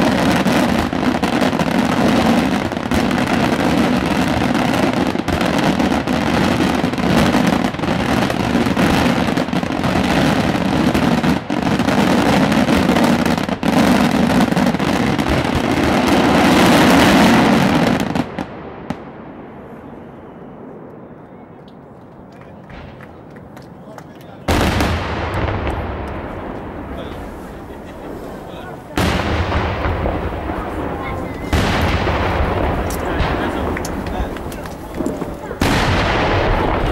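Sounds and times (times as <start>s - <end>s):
fireworks bursting bangs: 0.0s - 36.9s.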